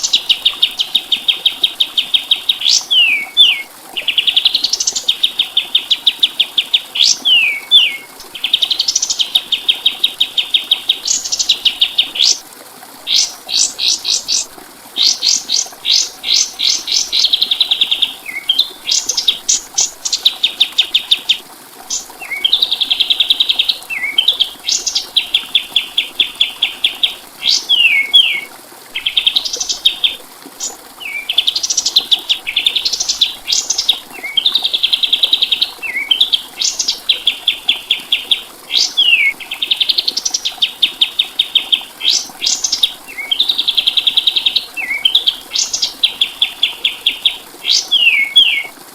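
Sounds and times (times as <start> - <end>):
songbird singing: 0.0 - 12.4, 13.1 - 48.7.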